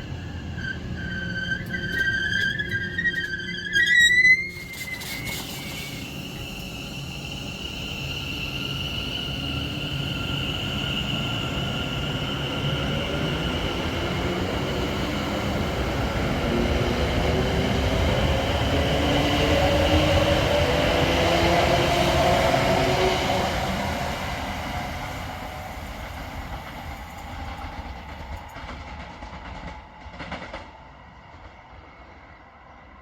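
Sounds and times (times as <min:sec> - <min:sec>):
train whine rising in pitch: 0:00.0 - 0:29.0
passenger train rumble: 0:00.0 - 0:33.0.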